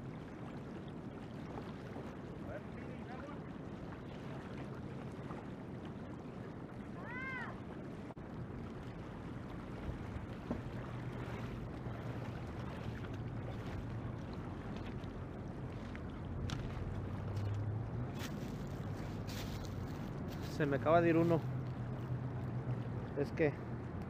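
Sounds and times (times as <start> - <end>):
river water: 0.0 - 24.0
wind on microphone: 0.0 - 24.0.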